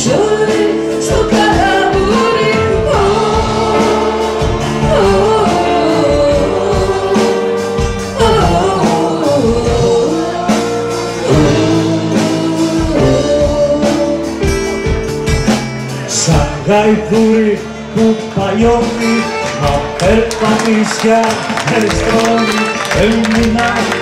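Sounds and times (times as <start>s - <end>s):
person singing: 0.0s - 15.1s, 15.9s - 24.0s
keyboard: 0.0s - 24.0s.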